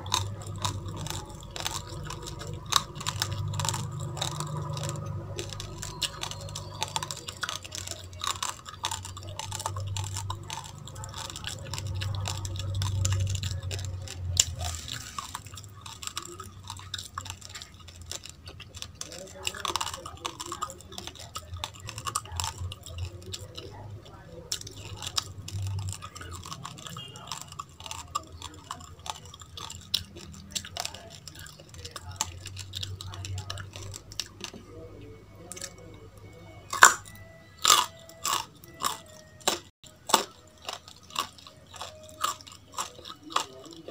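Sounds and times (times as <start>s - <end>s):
crisp chewing crunches: 0.0s - 43.9s.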